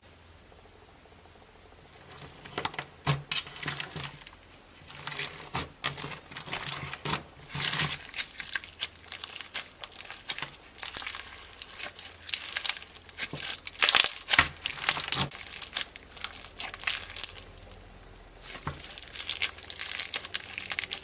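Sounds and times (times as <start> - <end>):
slime crackling and popping: 2.0 - 21.0.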